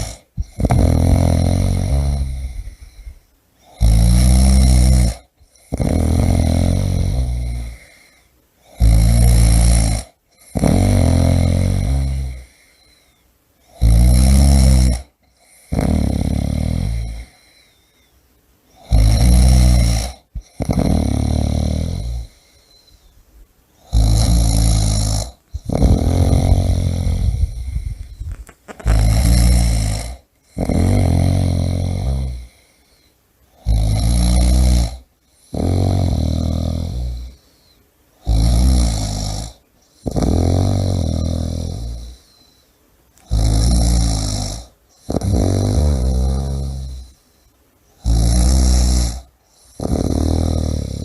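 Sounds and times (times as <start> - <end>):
person snoring loudly: 0.0 - 12.9, 13.7 - 17.7, 18.8 - 22.6, 23.8 - 32.7, 33.6 - 37.4, 38.2 - 42.4, 43.2 - 47.2, 48.0 - 51.0.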